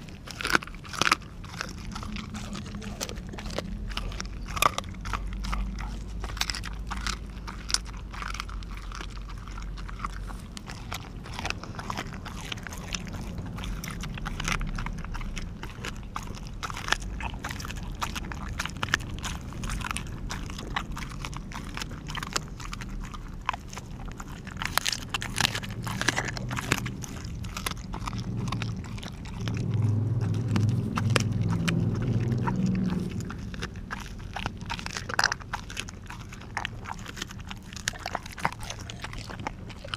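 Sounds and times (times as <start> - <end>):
dog chewing and crunching bone: 0.0 - 39.9
low hum: 0.0 - 39.9.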